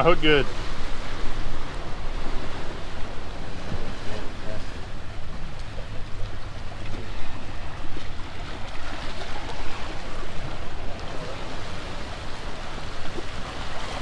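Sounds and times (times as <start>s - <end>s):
surf washing around pier pilings: 0.0s - 14.0s.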